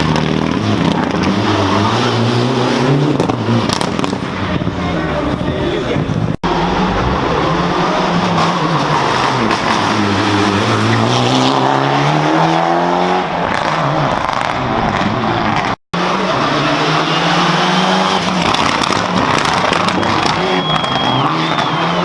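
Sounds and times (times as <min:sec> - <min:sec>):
rally car engine accelerating: 0:00.0 - 0:22.0.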